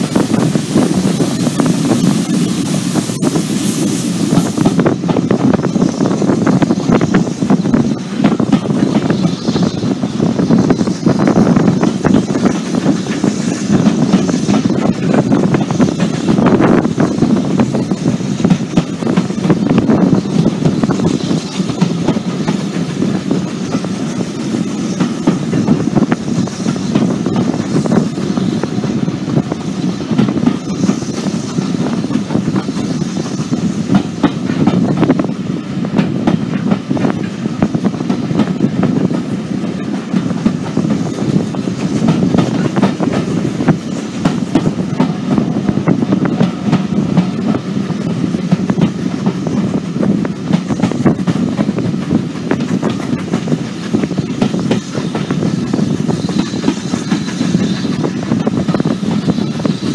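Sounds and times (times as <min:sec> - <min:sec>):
train coaches rumbling: 0:00.0 - 0:59.9.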